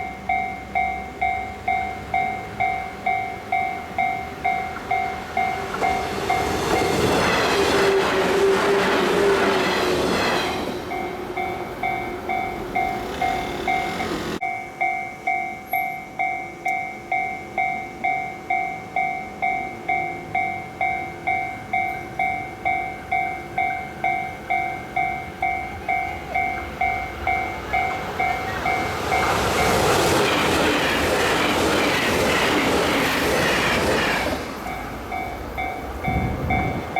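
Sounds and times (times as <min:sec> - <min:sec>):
level-crossing warning bell ringing: 0:00.0 - 0:36.9
train passing: 0:00.0 - 0:36.9.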